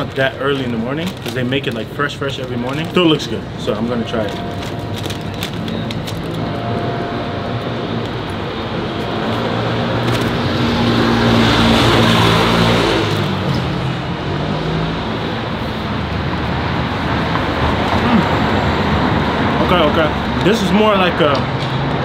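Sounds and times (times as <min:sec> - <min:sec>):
vehicle engine humming: 0:00.0 - 0:22.0
vehicle passing by: 0:03.3 - 0:22.0.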